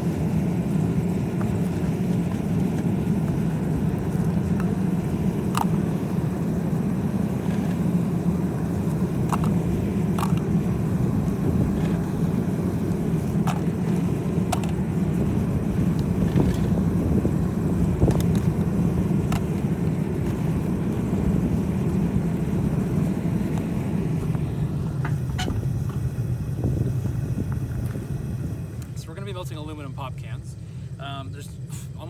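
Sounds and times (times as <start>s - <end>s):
furnace burner rumbling: 0.0s - 32.0s.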